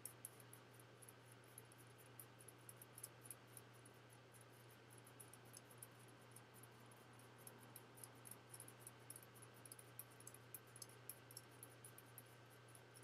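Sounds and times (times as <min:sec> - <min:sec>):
faint rapid high ticking: 0:00.0 - 0:13.0
steady low hum: 0:00.0 - 0:13.0.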